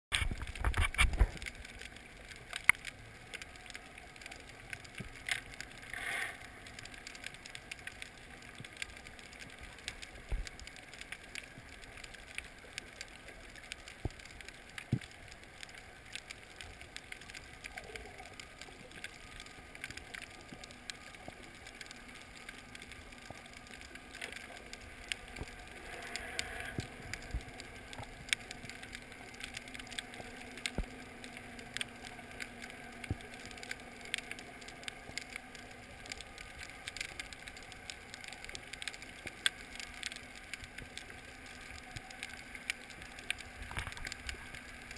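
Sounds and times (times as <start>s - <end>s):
sharp underwater clicks and crackles: 0.1s - 44.9s
faint underwater hiss: 0.9s - 44.9s.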